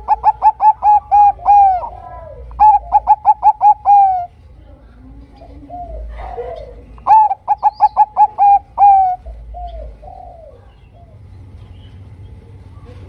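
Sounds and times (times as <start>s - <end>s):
dove cooing: 0.0s - 4.4s, 5.0s - 11.3s.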